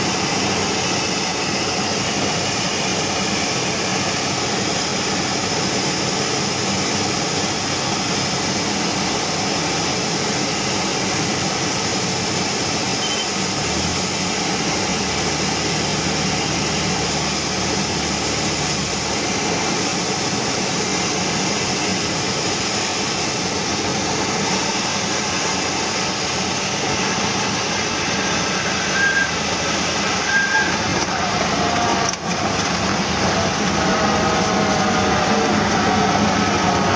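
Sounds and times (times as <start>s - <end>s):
small plane engine drone: 0.0s - 36.9s.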